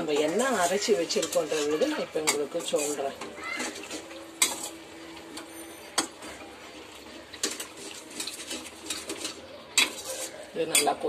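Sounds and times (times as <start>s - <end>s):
metal ladle scraping a pot: 0.0s - 11.0s.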